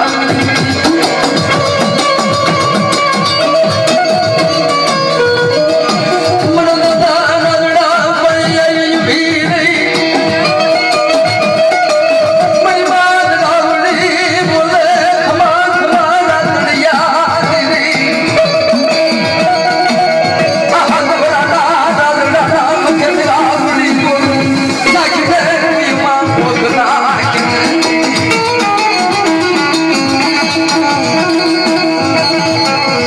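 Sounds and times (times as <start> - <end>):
devotional folk music: 0.0 - 33.0
quick drum beats: 0.0 - 33.0.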